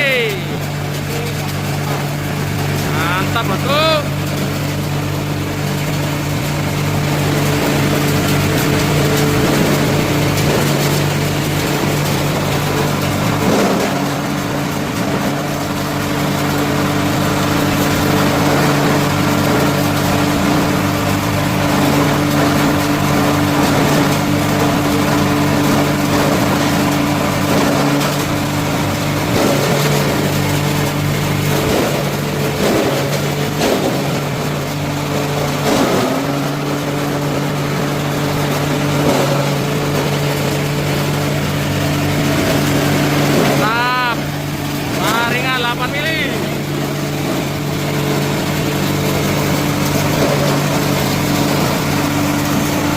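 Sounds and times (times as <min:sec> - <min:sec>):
grinder shredding fibre: 0:00.0 - 0:52.9.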